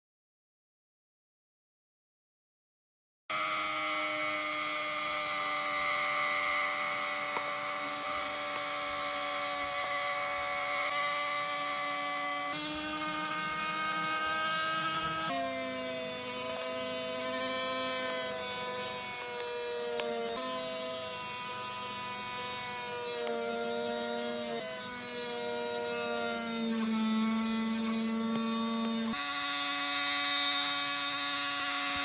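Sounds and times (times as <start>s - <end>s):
electric power tool whine: 3.3s - 32.0s.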